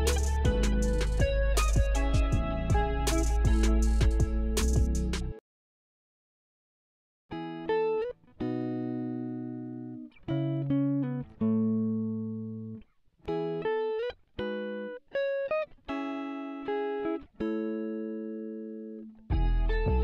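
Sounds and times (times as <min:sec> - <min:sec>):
plucked guitar chords: 0:00.0 - 0:05.4, 0:07.3 - 0:20.0.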